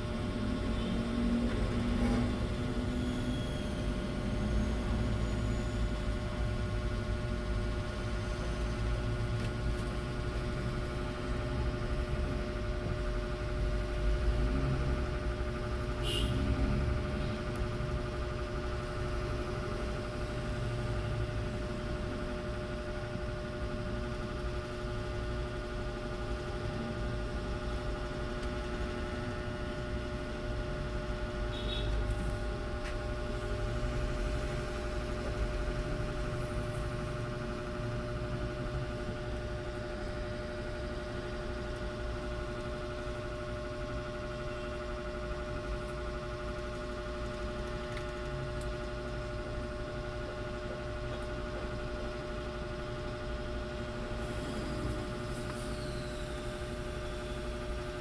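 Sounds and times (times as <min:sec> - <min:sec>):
appliance motor hum: 0:00.0 - 0:58.0.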